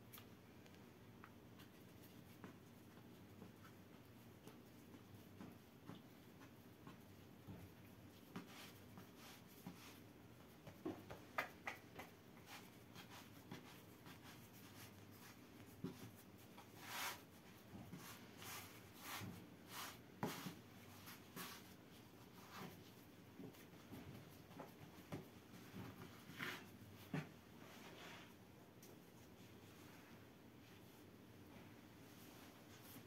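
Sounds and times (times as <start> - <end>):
hands rubbing dough on board: 1.4 - 28.4.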